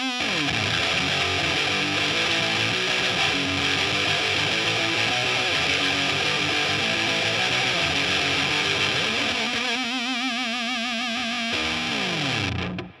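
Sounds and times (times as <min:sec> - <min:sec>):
distorted electric guitar riff: 0:00.0 - 0:13.0.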